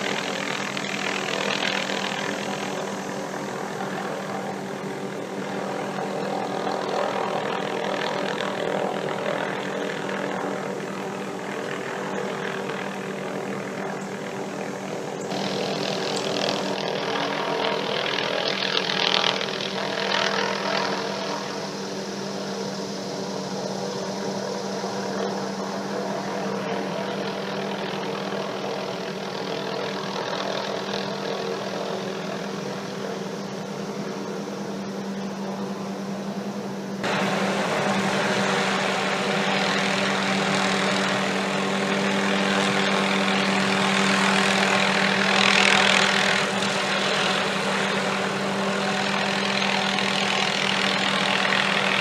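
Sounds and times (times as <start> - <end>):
helicopter running: 0.0 - 52.0.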